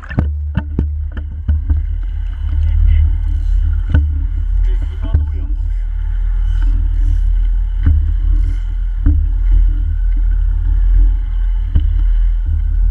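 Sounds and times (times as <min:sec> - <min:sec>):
faint steady hum: 0:00.0 - 0:12.9
underwater water rushing rumble: 0:00.0 - 0:12.9.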